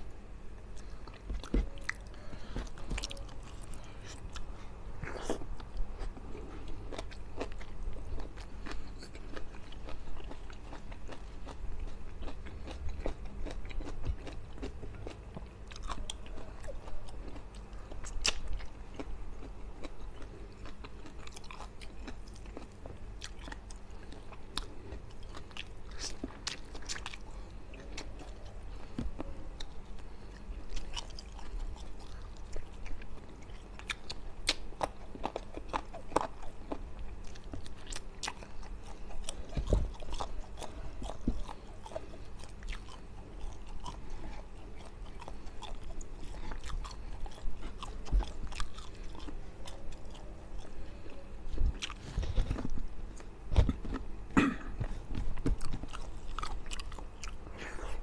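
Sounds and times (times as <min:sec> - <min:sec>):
man chewing close to microphone: 0:00.0 - 0:58.0.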